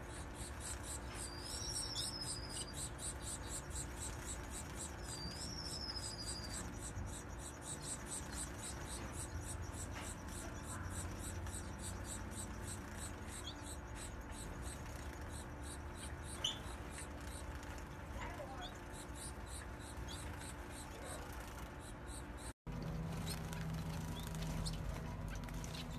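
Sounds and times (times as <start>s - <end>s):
finches calling: 0.0s - 22.5s
steady high chirping: 0.0s - 25.9s.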